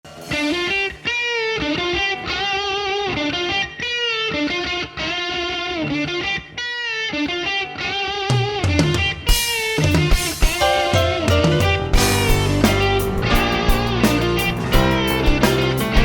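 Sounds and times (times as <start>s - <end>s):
electric guitar blues lead: 0.1s - 16.0s.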